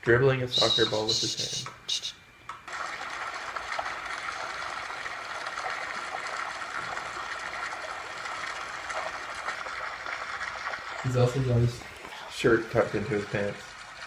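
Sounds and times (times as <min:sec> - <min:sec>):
water fountain splashing: 0:02.7 - 0:14.0.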